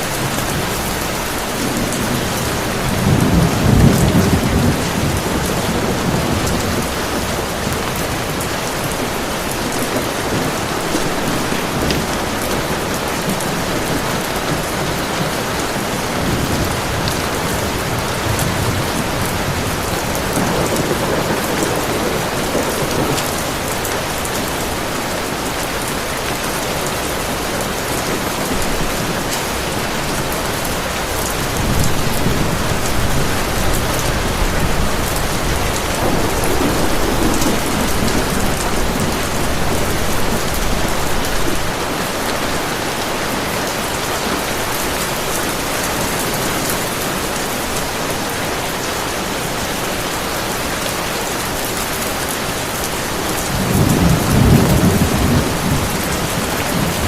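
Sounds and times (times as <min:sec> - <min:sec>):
low thunder rumbles: 0:00.0 - 0:46.2, 0:52.6 - 0:57.0
heavy rain falling: 0:00.0 - 0:57.0.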